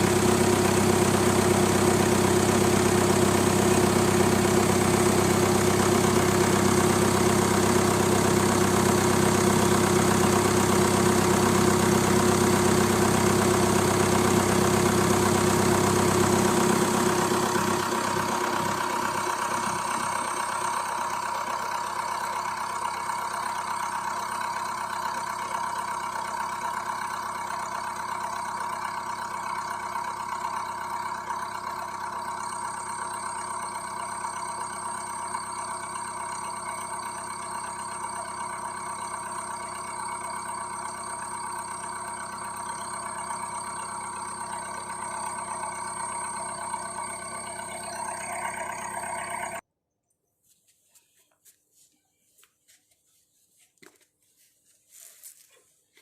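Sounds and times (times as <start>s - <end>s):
car engine idling: 0.0s - 49.6s.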